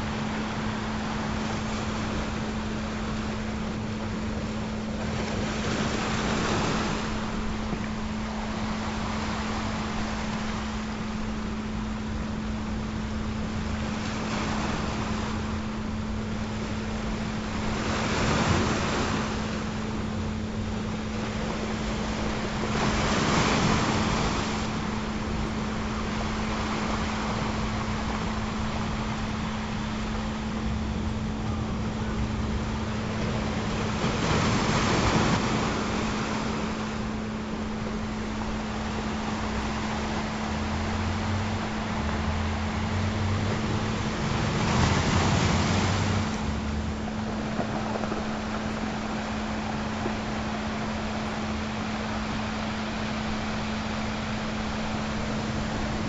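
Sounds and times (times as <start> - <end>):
ocean surf washing in: 0.0 - 56.0
steady low tone: 0.0 - 56.0.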